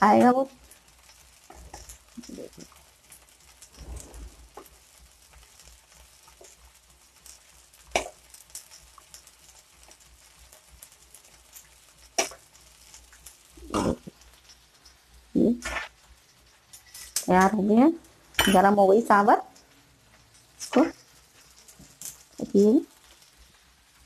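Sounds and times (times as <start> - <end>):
food sizzling on griddle: 0.0 - 24.0.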